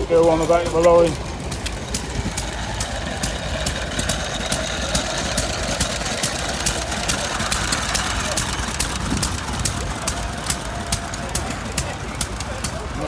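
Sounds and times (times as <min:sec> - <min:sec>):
engine knocks: 0:00.0 - 0:13.0
stationary engines rumbling: 0:00.0 - 0:13.0.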